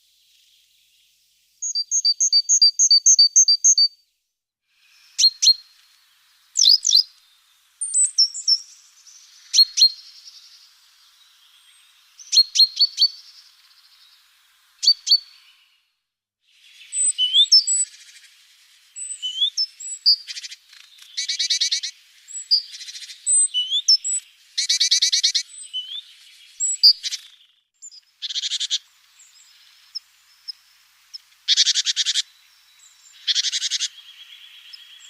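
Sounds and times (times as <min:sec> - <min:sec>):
sharp bird chirps: 0:01.6 - 0:03.9, 0:04.8 - 0:15.8, 0:16.6 - 0:30.7, 0:31.5 - 0:35.0
small birds calling: 0:04.8 - 0:16.0, 0:16.6 - 0:35.0.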